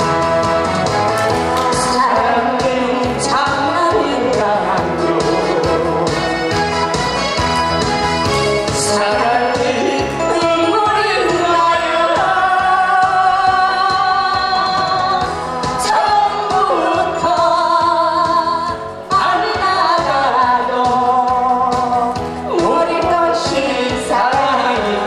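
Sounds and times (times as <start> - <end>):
backing music with acoustic guitar: 0.0 - 25.0
woman singing into a microphone: 1.6 - 6.4, 8.8 - 25.0.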